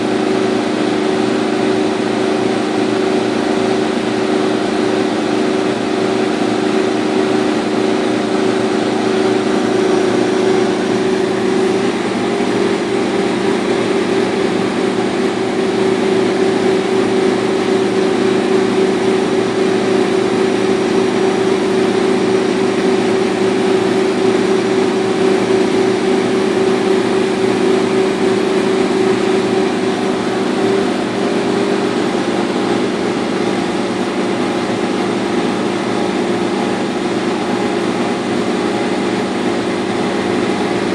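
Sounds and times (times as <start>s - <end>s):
laser cutter humming: 0.0s - 40.9s.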